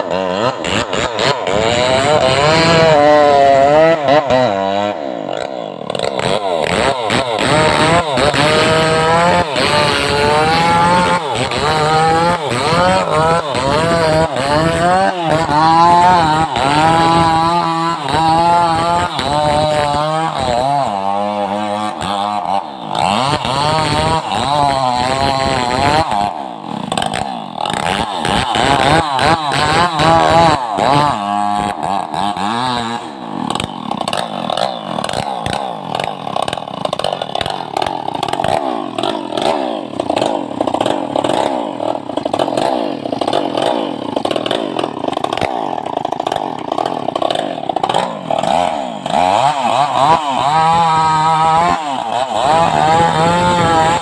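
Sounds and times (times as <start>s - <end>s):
chainsaw running hard: 0.0s - 54.0s.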